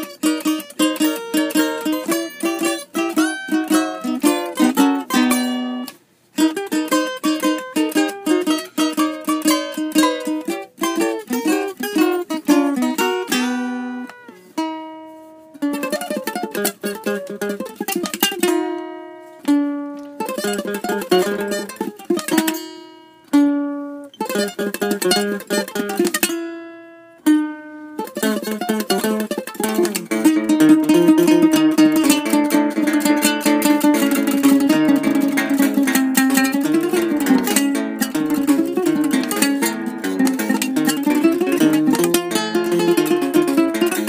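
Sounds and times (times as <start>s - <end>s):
guitar playing: 0.0s - 44.0s
ukulele playing: 0.0s - 44.0s.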